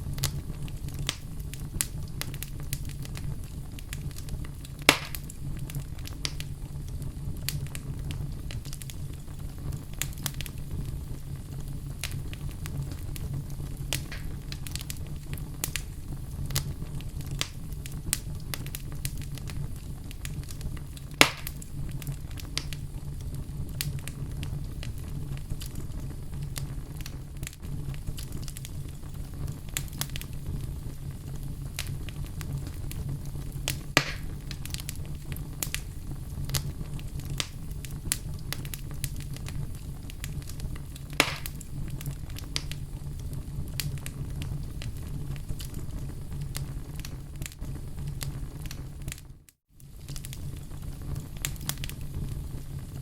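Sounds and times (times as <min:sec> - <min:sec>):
fire crackling: 0:00.0 - 0:53.0
loud fire pops: 0:00.0 - 0:53.0
low fire rumble: 0:00.0 - 0:53.0.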